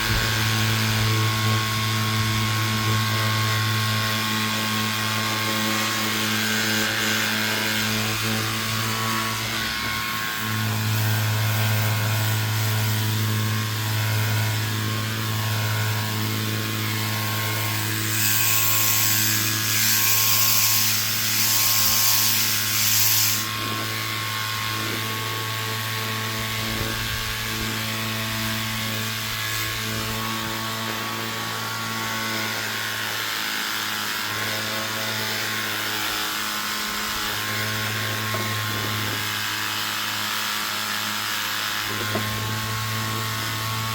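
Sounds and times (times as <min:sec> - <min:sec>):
pressure washer humming: 0:00.0 - 0:43.9.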